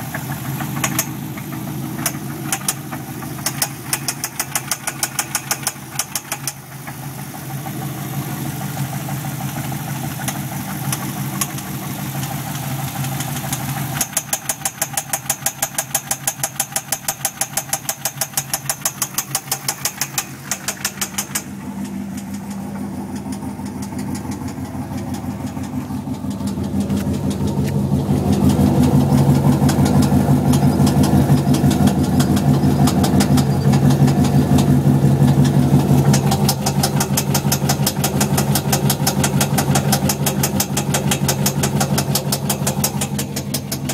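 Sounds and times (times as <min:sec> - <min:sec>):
engine knocking and tapping: 0:00.0 - 0:43.9
vee eight engine running: 0:00.0 - 0:43.9.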